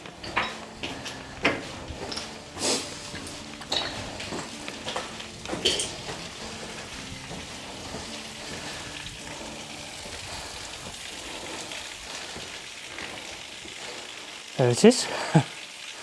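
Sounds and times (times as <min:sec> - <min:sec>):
footsteps on loose slate: 0:00.0 - 0:14.2
waterfall splashing: 0:00.0 - 0:16.0.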